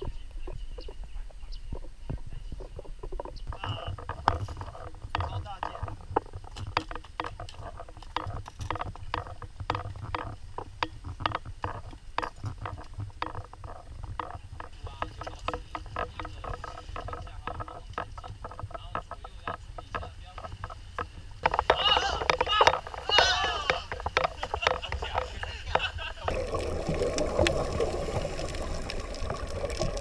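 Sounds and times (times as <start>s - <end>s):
footsteps and clattering gear: 0.0s - 30.0s.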